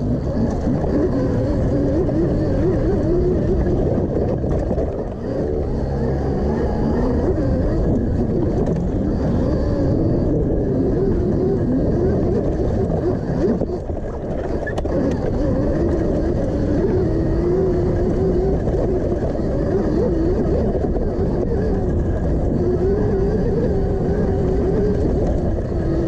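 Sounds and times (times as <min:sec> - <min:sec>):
electric motor whine: 0:00.0 - 0:26.0
low rumble of riding: 0:00.0 - 0:26.0.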